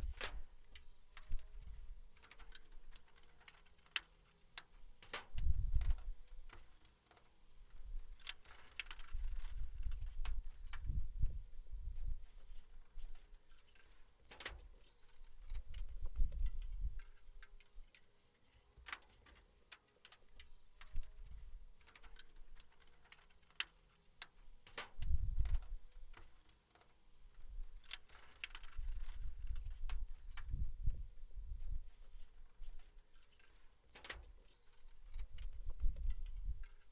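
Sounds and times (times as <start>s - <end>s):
light clicks and taps on metal: 0.0s - 11.0s, 12.0s - 30.6s, 31.6s - 36.9s.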